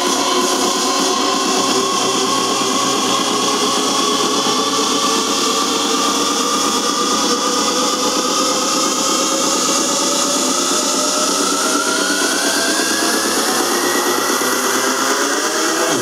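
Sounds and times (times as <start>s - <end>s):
loud distorted psytrance: 0.0s - 16.0s.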